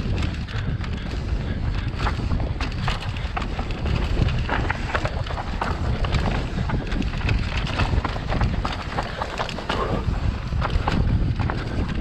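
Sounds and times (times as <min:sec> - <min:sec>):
bike rattling over rocks: 0:00.0 - 0:12.0
wind buffeting microphone: 0:00.0 - 0:12.0.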